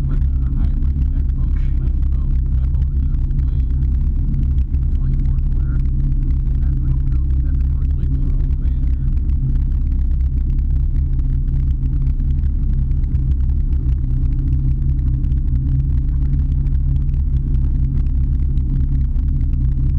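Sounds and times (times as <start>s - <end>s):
boat engine rumbling: 0.0s - 19.9s.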